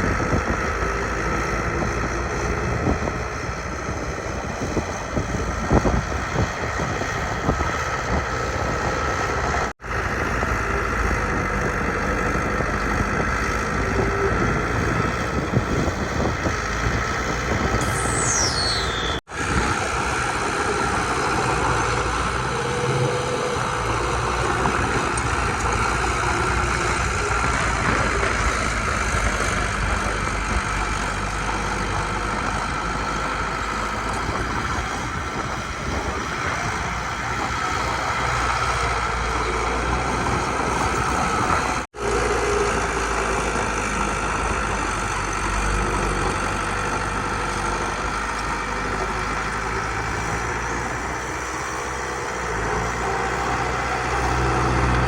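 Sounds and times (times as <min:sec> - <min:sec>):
heavy machinery diesel engines running: 0:00.0 - 0:55.0.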